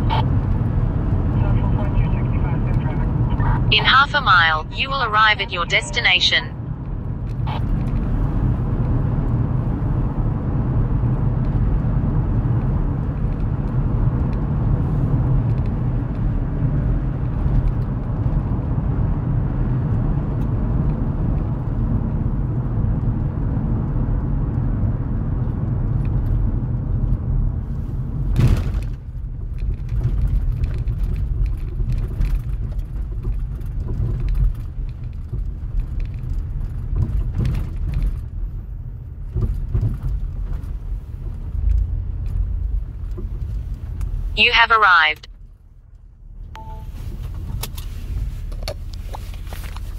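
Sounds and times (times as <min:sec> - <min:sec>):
road and engine rumble: 0:00.0 - 0:49.9.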